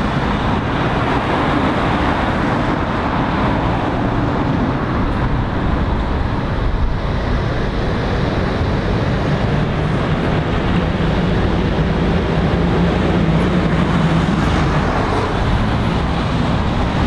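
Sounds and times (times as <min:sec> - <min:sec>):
lorries approaching: 0:00.0 - 0:17.0.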